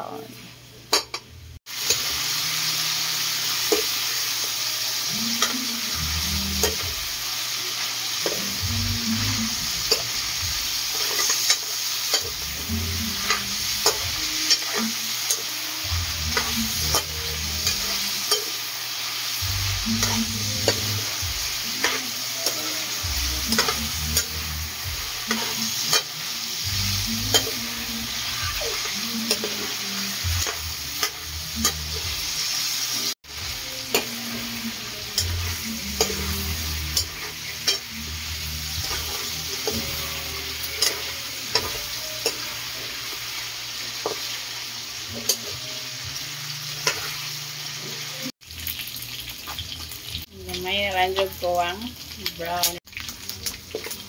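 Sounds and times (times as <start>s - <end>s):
meat sizzling in hot oil: 1.7s - 54.0s.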